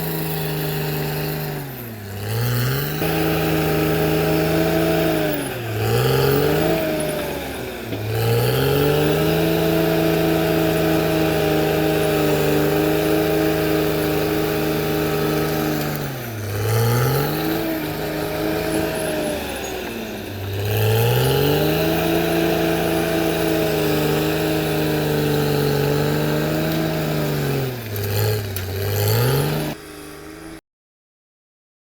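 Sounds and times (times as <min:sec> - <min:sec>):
bulldozer diesel engine revving: 0:00.0 - 0:30.6.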